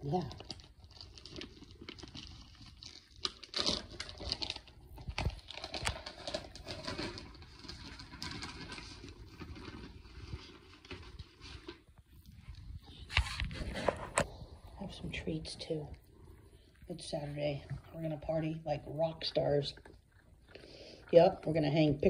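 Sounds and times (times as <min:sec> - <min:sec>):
treat bag rustling and crinkling: 0:00.0 - 0:19.7.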